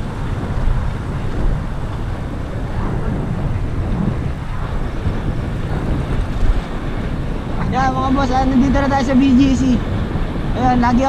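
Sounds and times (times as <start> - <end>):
bicycle riding noise: 0.0 - 11.0
city traffic rumble: 0.0 - 11.0.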